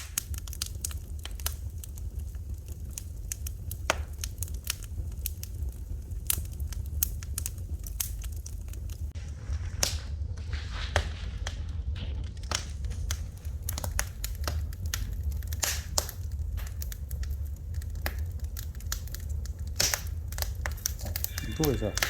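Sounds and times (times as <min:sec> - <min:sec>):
fire hiss: 0:00.0 - 0:22.0
wood fire crackling: 0:00.0 - 0:22.0.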